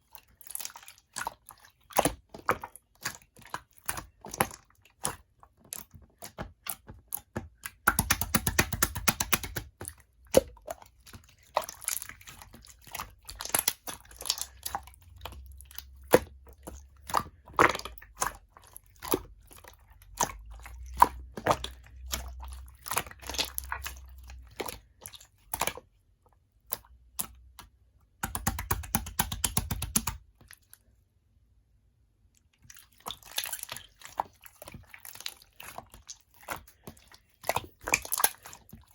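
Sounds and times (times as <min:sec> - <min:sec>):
slime squished by hand: 0:00.2 - 0:25.9, 0:32.5 - 0:38.9.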